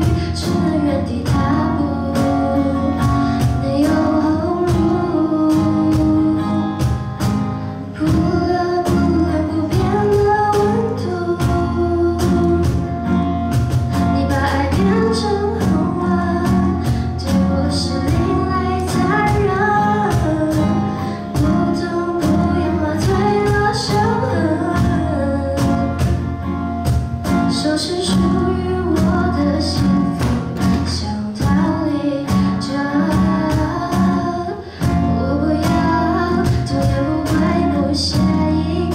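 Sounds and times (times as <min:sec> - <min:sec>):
acoustic guitar: 0:00.0 - 0:38.9
cajon beat: 0:00.0 - 0:38.9
woman singing into a microphone: 0:00.0 - 0:38.9.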